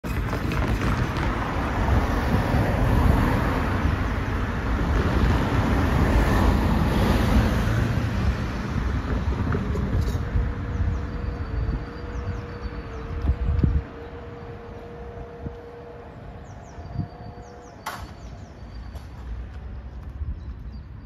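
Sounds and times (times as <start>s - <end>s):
cars driving past: 0.1s - 20.3s.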